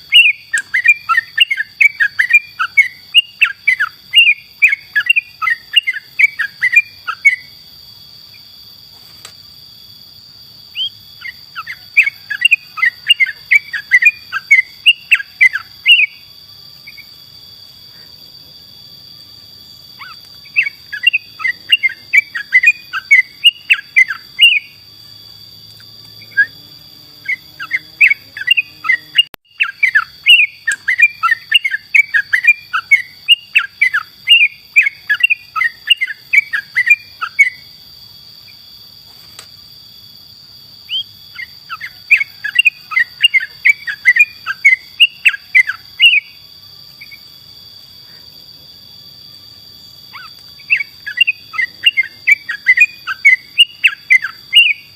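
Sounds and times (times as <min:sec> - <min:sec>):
steady high-pitched whine: 0:00.0 - 0:54.9.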